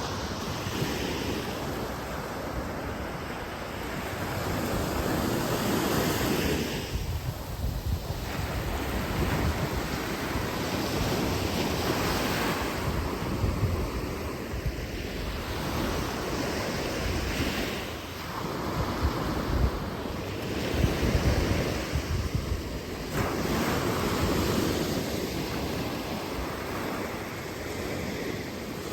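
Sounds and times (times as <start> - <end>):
sea waves breaking: 0.0 - 28.9
wind buffeting microphone: 0.0 - 28.9.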